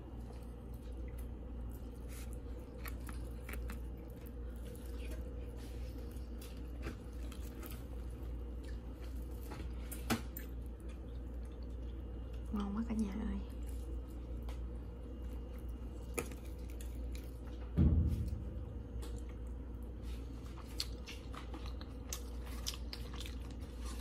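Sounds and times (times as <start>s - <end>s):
person chewing food: 0.0s - 12.6s, 13.5s - 24.0s
steady low hum: 0.0s - 24.0s.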